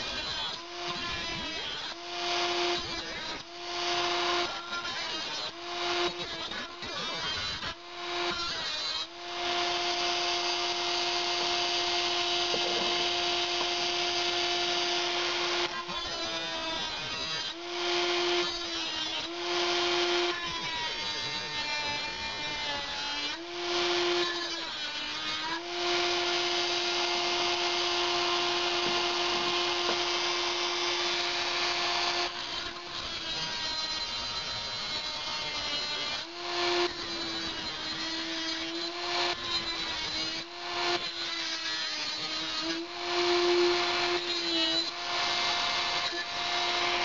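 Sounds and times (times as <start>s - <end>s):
rotary tool whining: 0.0s - 47.0s.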